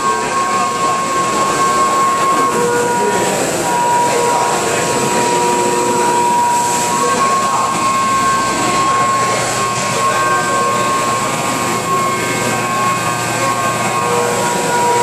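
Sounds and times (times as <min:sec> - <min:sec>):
din of a large hall: 0:00.0 - 0:15.0
high whining tones: 0:00.0 - 0:15.0.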